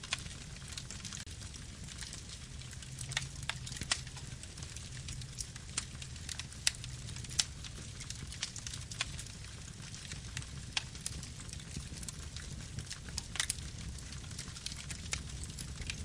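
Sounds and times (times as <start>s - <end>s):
low rumble of flames: 0.0s - 16.0s
wood crackles and pops: 0.0s - 16.0s.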